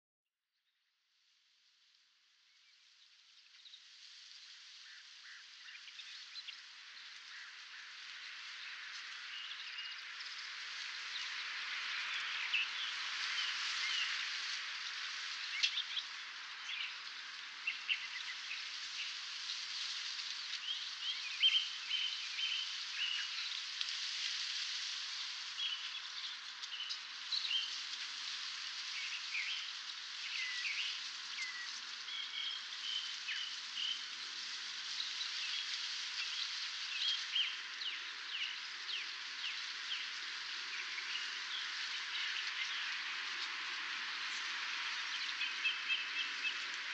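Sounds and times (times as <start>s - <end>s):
steady hiss: 1.4s - 46.9s
songbirds chirping: 2.5s - 46.9s.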